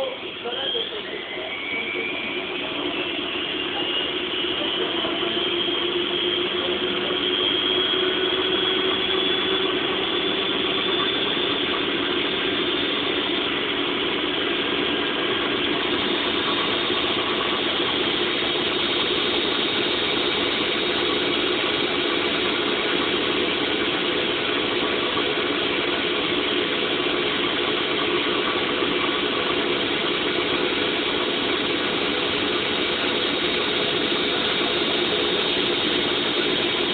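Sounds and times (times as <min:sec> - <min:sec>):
washing machine spinning: 0:00.0 - 0:36.9.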